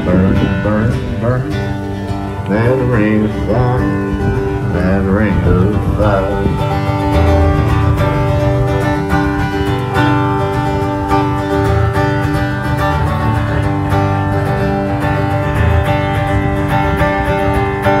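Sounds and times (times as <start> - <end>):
bass line: 0.0 - 18.0
strummed acoustic guitar: 0.0 - 18.0.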